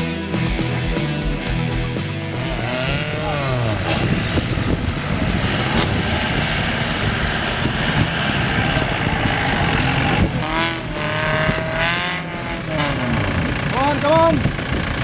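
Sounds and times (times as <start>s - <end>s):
off-road vehicle engine under load: 0.0s - 15.0s.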